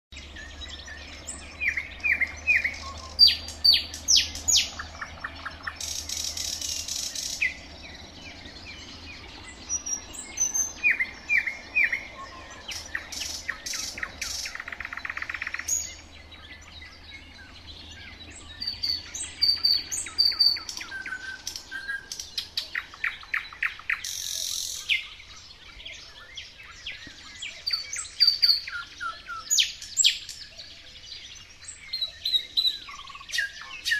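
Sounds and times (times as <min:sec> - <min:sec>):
nightingale singing: 0:00.2 - 0:33.9.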